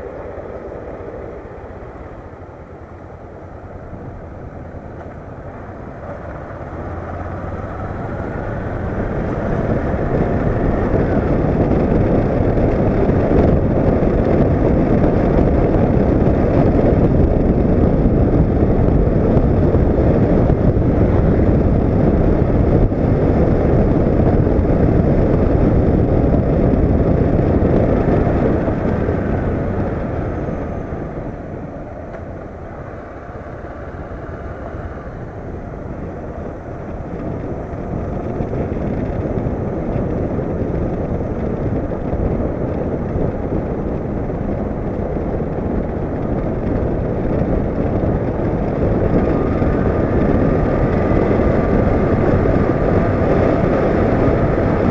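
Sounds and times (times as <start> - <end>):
motorcycle engine: 0.0 - 54.9
wind rushing on microphone: 0.0 - 54.9.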